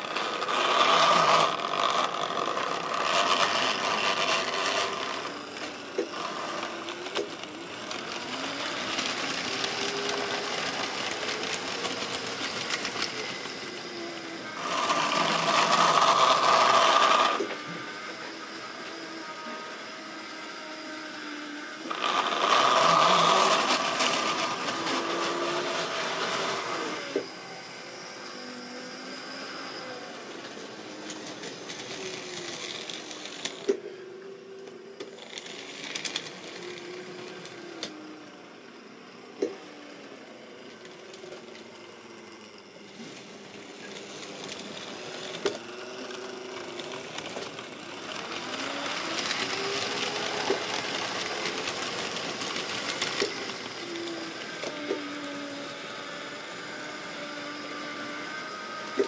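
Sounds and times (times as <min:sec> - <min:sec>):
model train wheels clicking on track: 0:00.0 - 0:19.2, 0:21.8 - 0:27.4, 0:30.3 - 0:33.9, 0:34.5 - 0:38.0, 0:40.7 - 0:57.7
electric motor whirring: 0:00.0 - 0:59.0.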